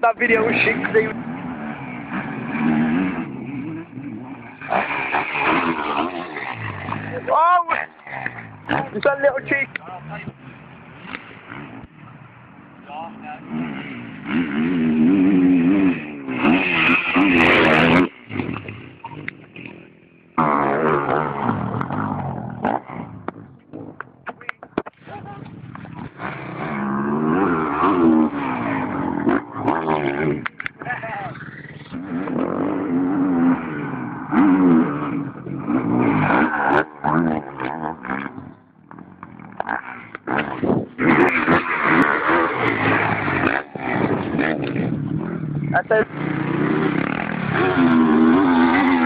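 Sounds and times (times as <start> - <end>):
motocross bike engine revving: 0.0 - 24.0, 25.4 - 49.0.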